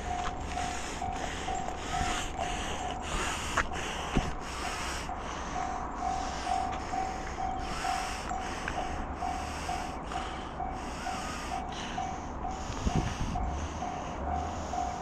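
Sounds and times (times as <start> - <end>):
level crossing alarm ringing: 0.0 - 15.0.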